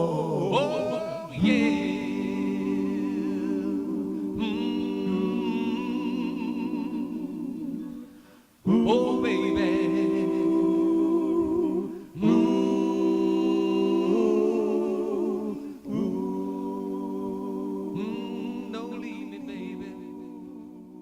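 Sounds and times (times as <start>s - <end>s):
person singing wordless notes: 0.0s - 21.0s.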